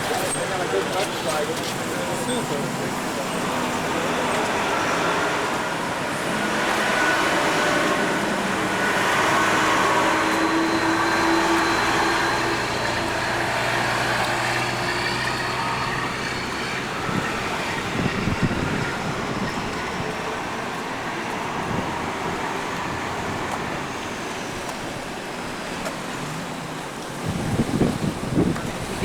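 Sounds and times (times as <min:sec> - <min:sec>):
road traffic passing: 0:00.0 - 0:29.0
vehicle engine hum: 0:00.0 - 0:29.0.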